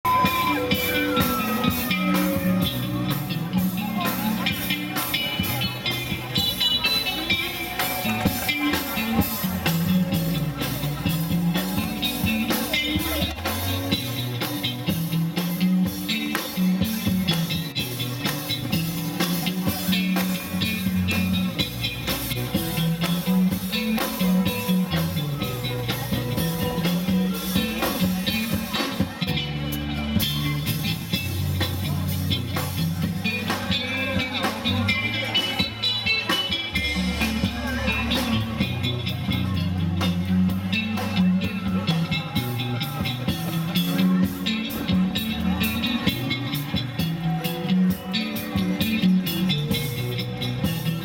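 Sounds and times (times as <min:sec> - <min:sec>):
bass line: 0:00.0 - 0:51.0
drum kit beat: 0:00.0 - 0:51.0
electric guitars: 0:00.0 - 0:51.0.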